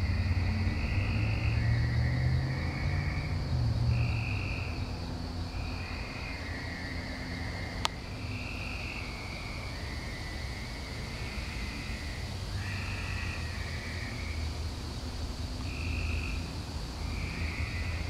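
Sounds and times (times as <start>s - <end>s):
frogs calling: 0.0s - 18.0s.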